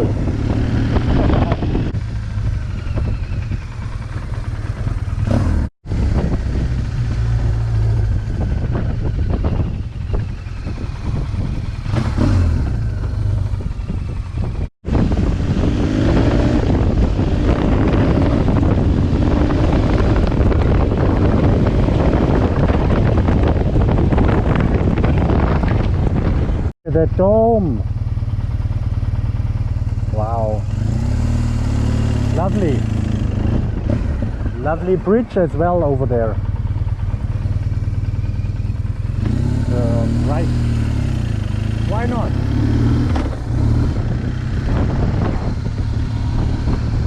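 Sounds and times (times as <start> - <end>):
motorcycle engine running: 0.0 - 47.0
wind rushing over microphone: 0.0 - 47.0.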